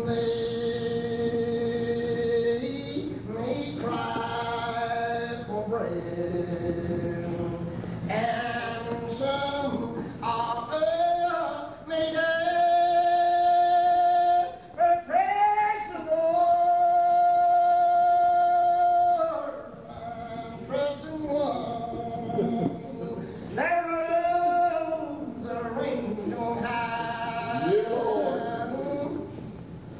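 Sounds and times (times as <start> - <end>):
unaccompanied hymn singing: 0.0 - 29.6.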